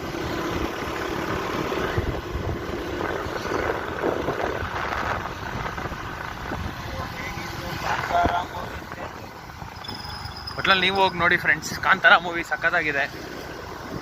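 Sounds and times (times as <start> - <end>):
vehicle road noise from inside: 0.0 - 14.0.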